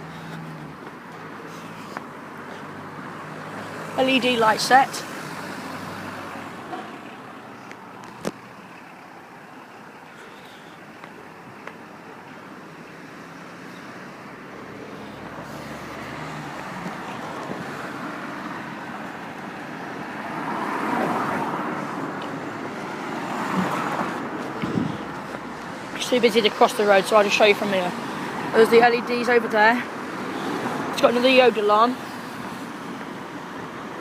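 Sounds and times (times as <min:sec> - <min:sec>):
loud vehicle passing: 0:00.0 - 0:09.1, 0:12.6 - 0:34.0
road traffic passing: 0:00.0 - 0:34.0.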